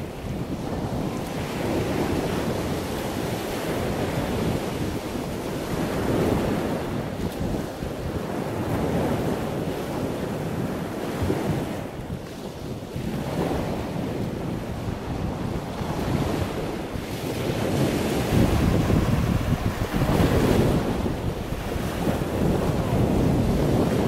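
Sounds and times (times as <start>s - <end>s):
sea water rushing: 0.0s - 24.0s
wind buffeting microphone: 0.0s - 24.0s.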